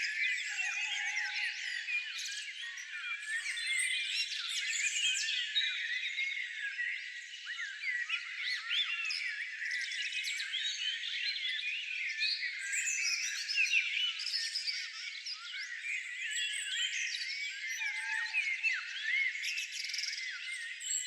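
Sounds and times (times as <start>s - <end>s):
chorus of small songbirds: 0.0s - 21.0s.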